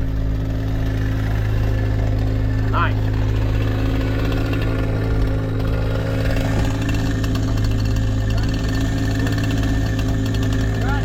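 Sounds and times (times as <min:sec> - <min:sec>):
machine engine running: 0:00.0 - 0:11.0.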